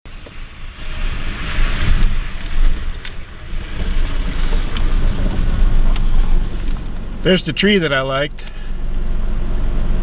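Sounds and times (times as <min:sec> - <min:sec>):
truck engine and tyre rumble: 0:00.0 - 0:10.0
road hiss: 0:00.1 - 0:10.0.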